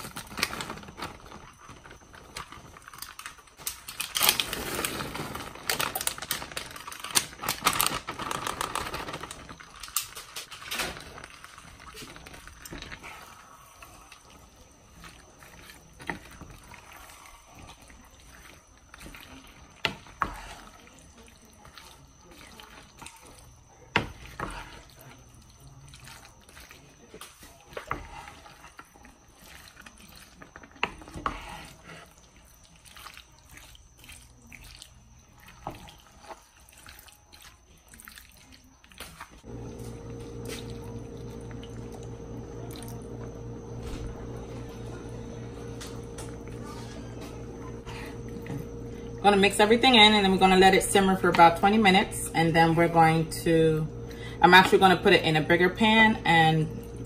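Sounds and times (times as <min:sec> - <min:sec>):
wet squelching of stirring: 0:00.0 - 0:57.0.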